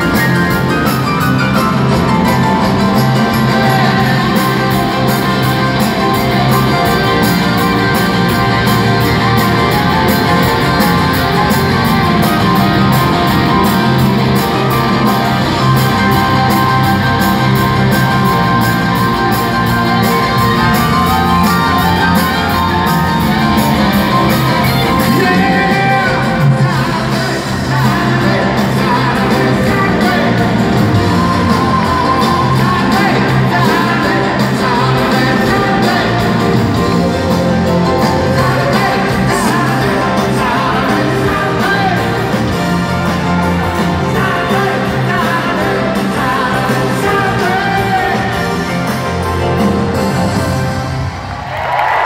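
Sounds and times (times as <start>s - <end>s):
steady drum beat: 0.0s - 50.6s
live rock band playing: 0.0s - 52.0s
piano: 0.0s - 52.0s.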